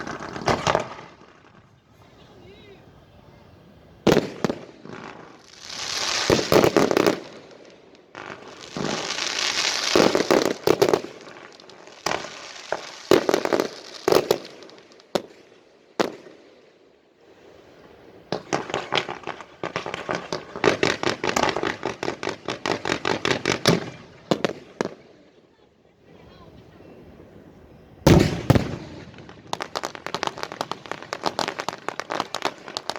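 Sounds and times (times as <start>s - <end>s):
fireworks bangs: 0.0s - 3.0s, 4.0s - 16.4s, 17.8s - 25.3s, 27.2s - 32.9s
fireworks hissing and crackling: 0.0s - 25.4s, 26.1s - 32.9s.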